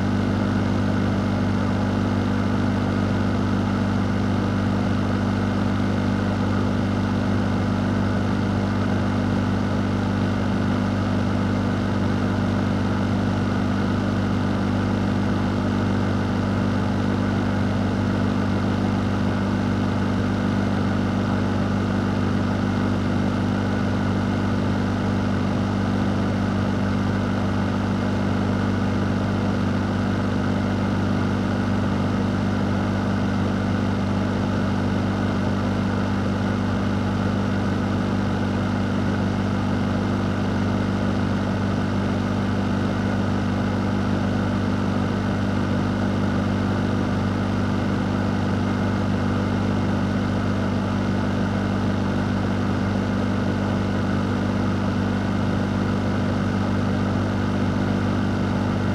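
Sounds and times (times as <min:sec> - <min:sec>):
fan running: 0:08.6 - 0:58.9.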